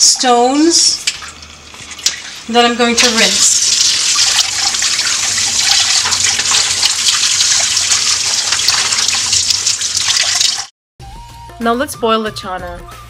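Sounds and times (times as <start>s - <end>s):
faucet water running: 0.0s - 10.7s.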